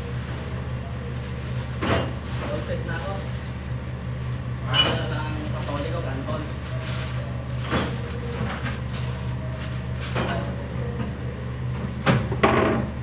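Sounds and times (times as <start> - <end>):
kitchen machine hum: 0.0 - 13.0.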